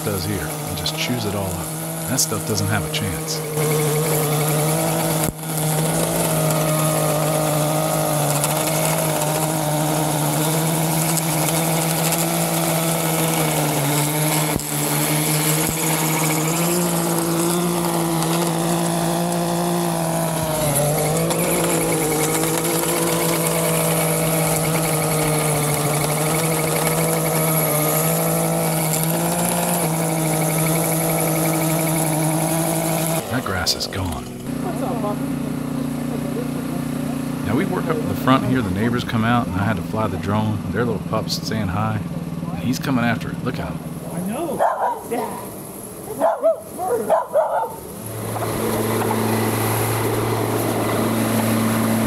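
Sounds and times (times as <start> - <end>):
small engine running at high speed: 0.0 - 52.0.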